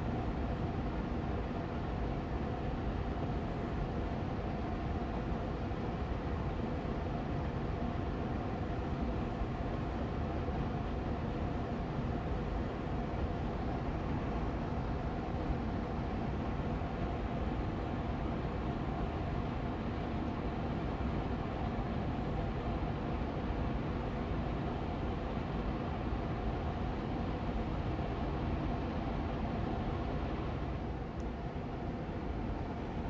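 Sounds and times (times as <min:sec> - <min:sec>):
air purifier fan running: 0:00.0 - 0:33.0.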